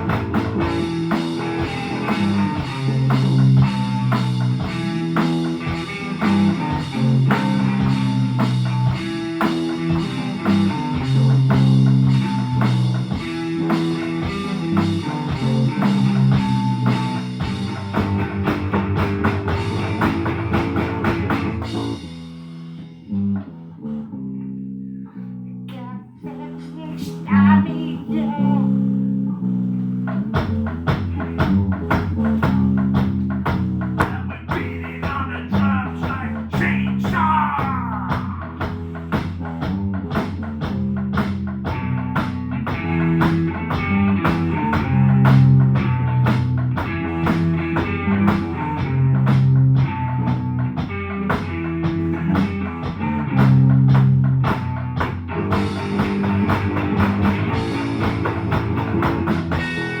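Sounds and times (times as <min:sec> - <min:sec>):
band playing live: 0:00.0 - 0:23.5, 0:30.1 - 1:00.0
steady drum beat: 0:00.0 - 0:23.6, 0:30.0 - 1:00.0
electric guitar riffs: 0:00.0 - 0:28.8, 0:30.2 - 1:00.0.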